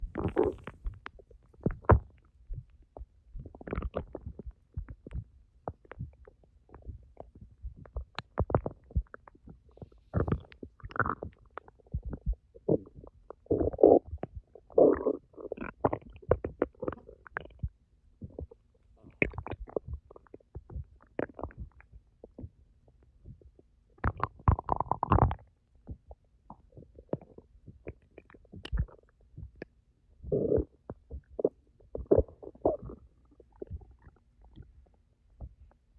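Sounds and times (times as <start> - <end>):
stomach growling: 0.0 - 35.8.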